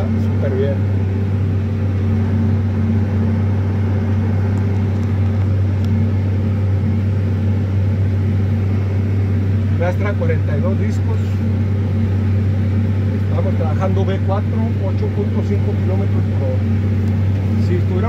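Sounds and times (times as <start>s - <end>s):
tractor diesel engine drone: 0.0s - 18.0s.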